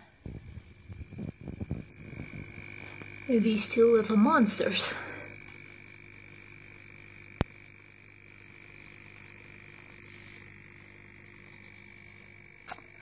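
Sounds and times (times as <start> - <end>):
aquarium air pump humming: 0.0 - 13.0.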